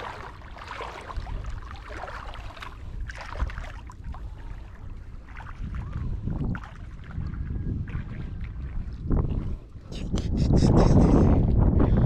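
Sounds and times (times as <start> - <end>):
feet sloshing through water: 0.0 - 9.9
wind rumbling on microphone: 0.0 - 12.0.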